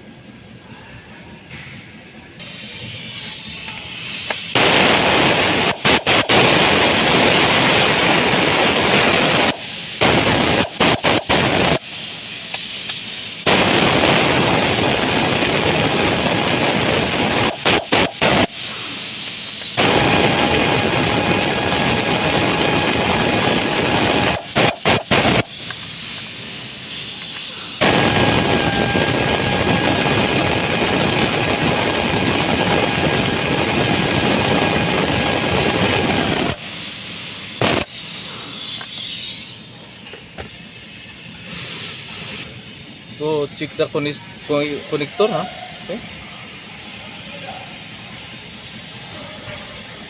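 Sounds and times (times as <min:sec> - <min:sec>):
compressed air blow gun hissing: 0:02.4 - 0:32.4, 0:33.5 - 0:43.8.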